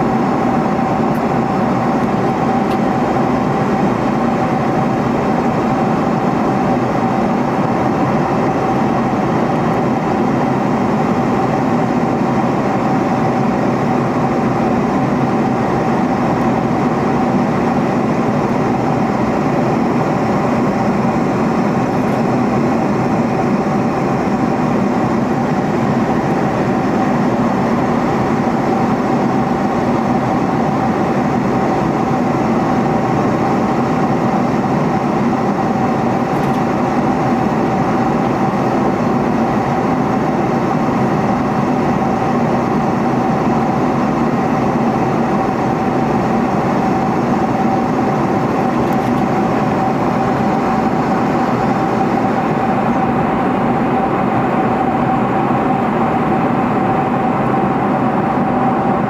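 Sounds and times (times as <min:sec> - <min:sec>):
airplane cabin engine and airflow noise: 0:00.0 - 0:59.0
steady hum: 0:00.0 - 0:59.0.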